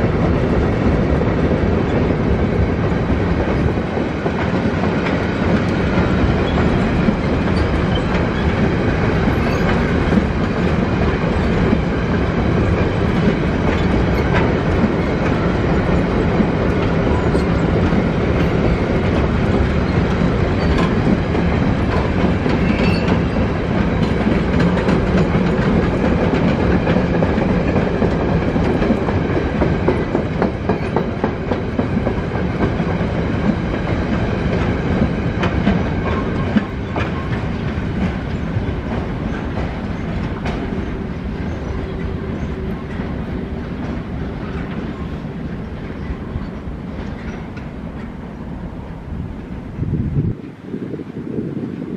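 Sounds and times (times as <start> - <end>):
wheels clacking over rail joints: 0.0 - 49.7
freight train rumbling: 0.0 - 51.9.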